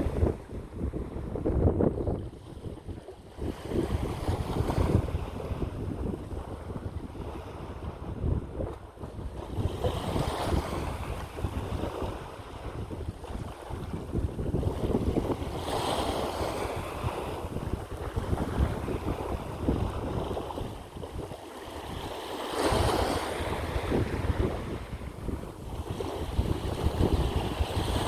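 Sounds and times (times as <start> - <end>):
sea waves washing ashore: 0.0 - 28.0
wind buffeting microphone: 0.0 - 28.0.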